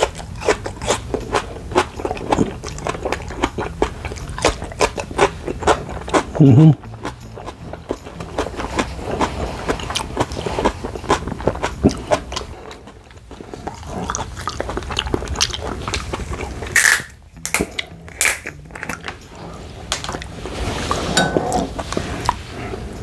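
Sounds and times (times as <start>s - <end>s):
chewing mouth clicks and smacks: 0.0s - 19.2s.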